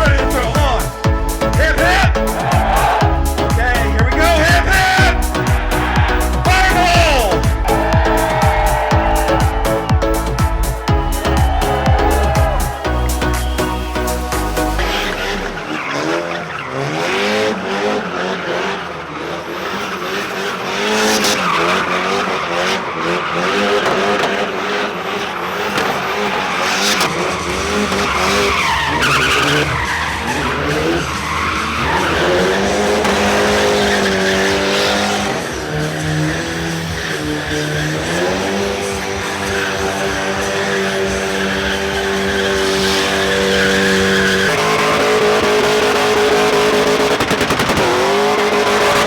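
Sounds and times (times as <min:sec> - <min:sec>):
tyres squealing: 0:00.0 - 0:16.8, 0:25.4 - 0:49.0
car engine revving: 0:00.0 - 0:49.0.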